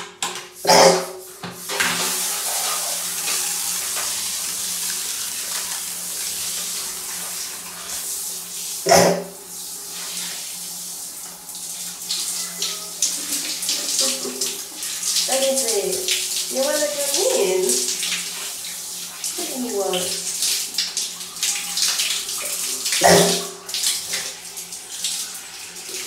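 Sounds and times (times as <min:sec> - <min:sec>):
shower spray running: 0:00.4 - 0:26.0.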